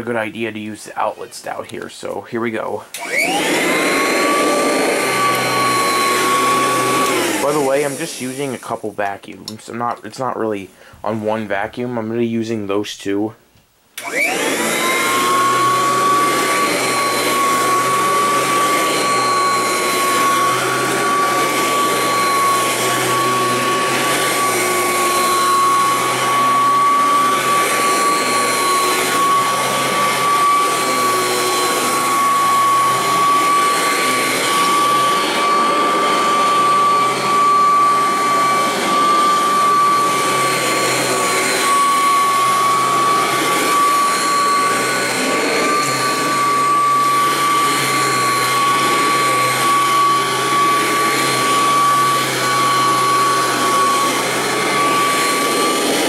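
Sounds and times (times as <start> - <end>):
vacuum cleaner running on carpet: 2.9 - 8.8, 14.0 - 56.0.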